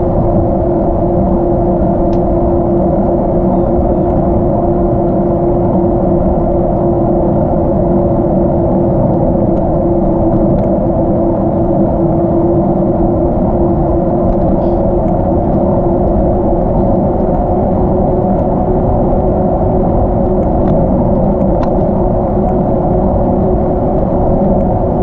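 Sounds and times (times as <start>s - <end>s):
steady hum: 0.0s - 25.0s
wind and tyre rumble: 0.0s - 25.0s.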